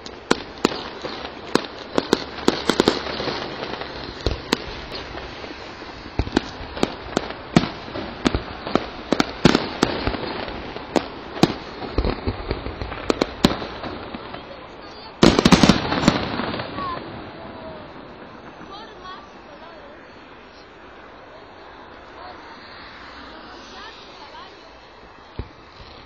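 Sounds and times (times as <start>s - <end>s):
fireworks bursting with sharp bangs: 0.0s - 26.0s
steady background noise: 0.0s - 26.0s.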